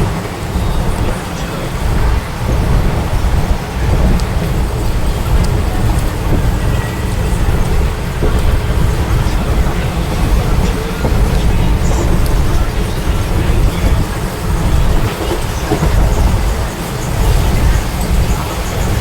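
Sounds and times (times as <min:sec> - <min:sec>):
vehicle rumble and road noise: 0:00.0 - 0:19.0.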